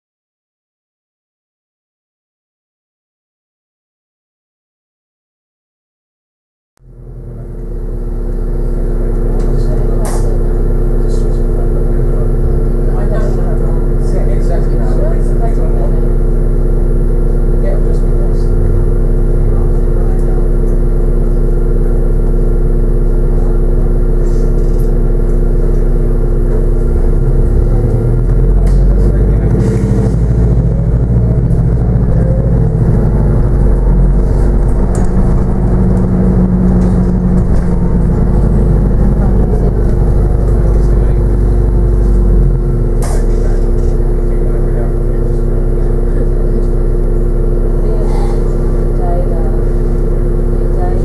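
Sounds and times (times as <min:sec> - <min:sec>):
bus drivetrain drone: 0:06.8 - 0:51.0.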